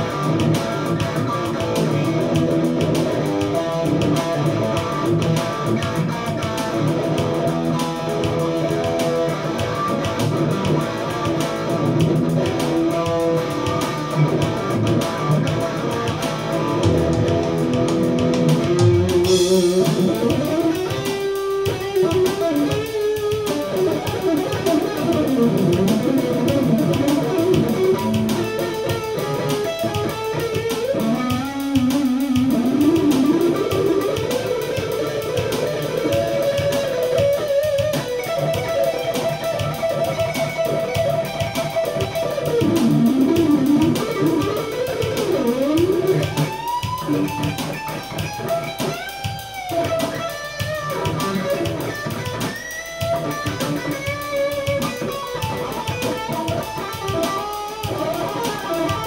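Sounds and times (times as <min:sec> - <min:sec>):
electric guitar lead through amp: 0:00.0 - 0:59.0.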